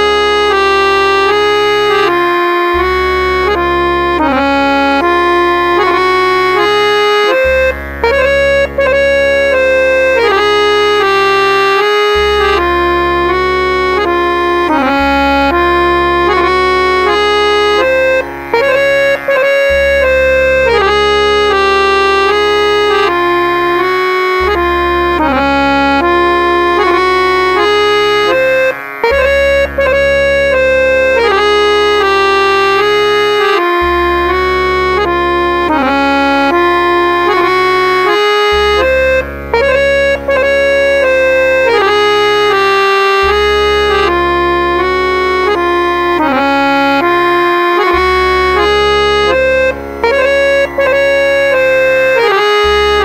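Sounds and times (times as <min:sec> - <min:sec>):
harmonium melodic loop: 0:00.0 - 0:53.0
held low drone note: 0:00.0 - 0:53.0.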